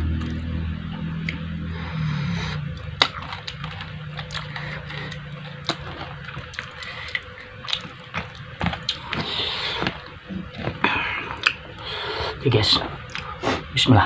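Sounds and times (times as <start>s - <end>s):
low hum: 0.0s - 14.0s
chewing with crisp crunches: 1.2s - 11.6s, 12.8s - 13.6s.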